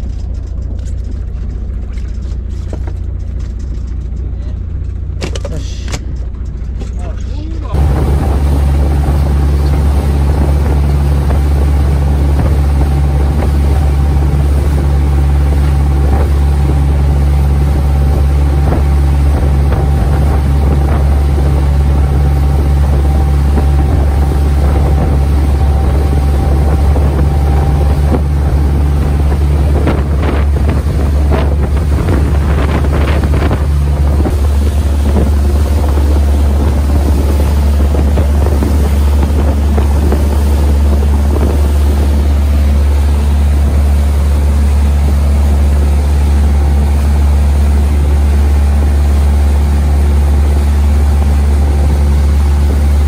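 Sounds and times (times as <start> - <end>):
boat engine droning: 0.0 - 53.0
wind buffeting microphone: 0.0 - 53.0.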